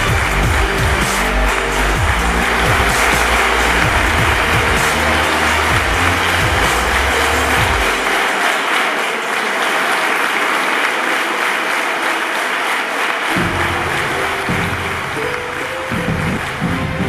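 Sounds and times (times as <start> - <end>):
background music: 0.0 - 17.0
crowd of children clapping: 0.0 - 17.0.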